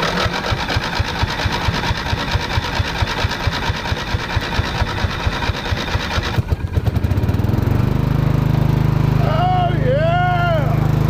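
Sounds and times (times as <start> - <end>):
lawnmower starter cranking engine: 0.0 - 9.8.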